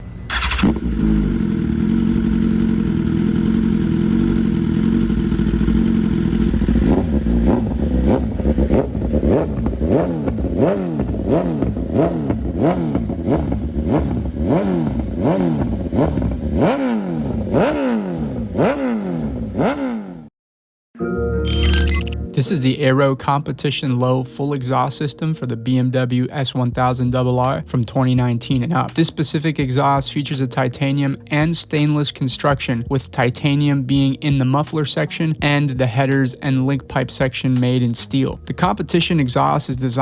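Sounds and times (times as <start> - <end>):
motorcycle engine idling and revving: 0.0 - 20.3, 26.7 - 40.0.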